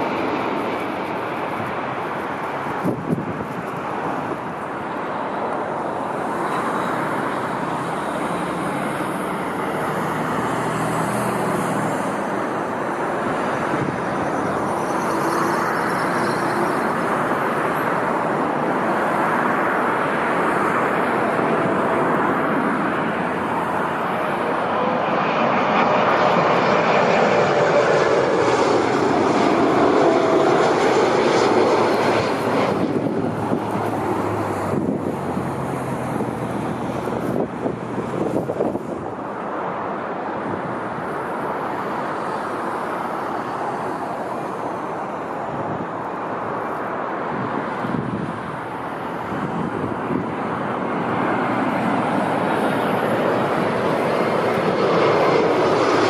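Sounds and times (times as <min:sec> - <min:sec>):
jet airliner passing: 0:00.0 - 0:56.0.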